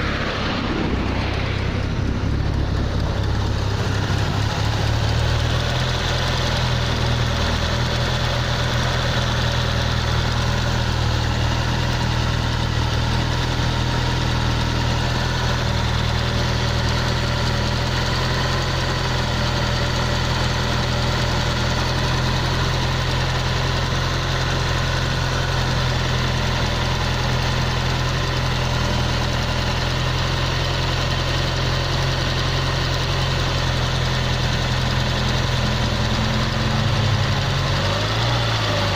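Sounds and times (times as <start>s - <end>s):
abnormal engine cylinder noise: 0.0s - 38.9s
car engine idling: 0.0s - 38.9s.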